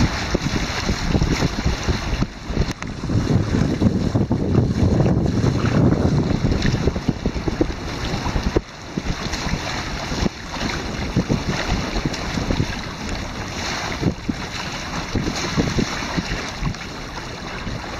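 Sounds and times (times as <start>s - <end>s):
water rushing along hulls: 0.0s - 17.9s
wind buffeting microphone: 0.0s - 17.9s.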